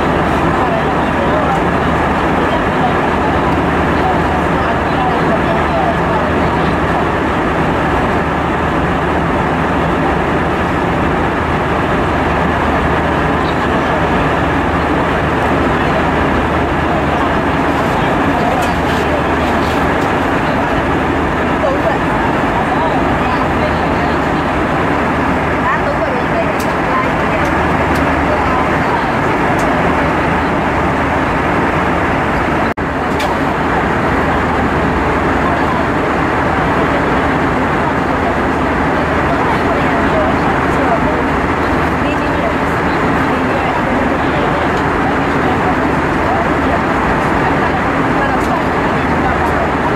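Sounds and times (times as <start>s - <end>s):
airplane cabin engine drone: 0.0s - 49.9s.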